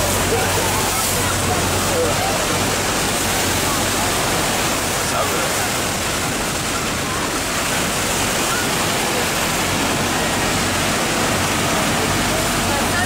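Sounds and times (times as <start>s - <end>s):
waterfall rushing and churning: 0.0s - 13.0s.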